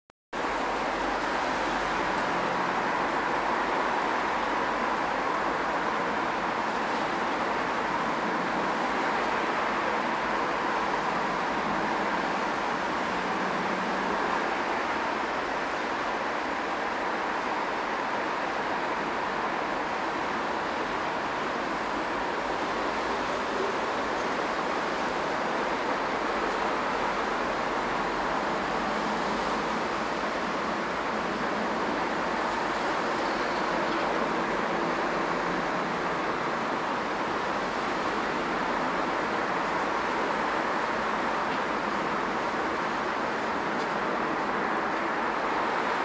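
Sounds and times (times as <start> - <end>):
traffic noise in underpass: 0.3 - 46.0
faint steady tone: 0.4 - 46.0.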